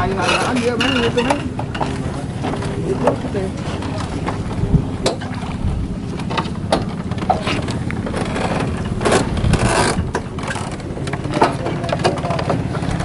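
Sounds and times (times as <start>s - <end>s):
knocks and scrapes: 0.1s - 13.0s.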